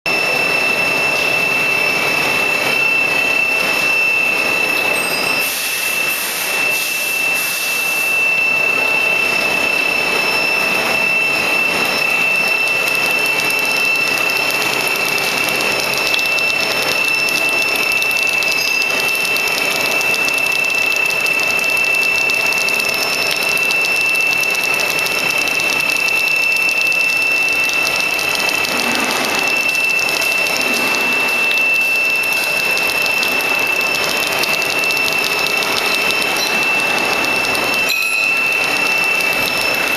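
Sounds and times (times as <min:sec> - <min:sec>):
machine whine and clatter: 0:00.1 - 0:39.9.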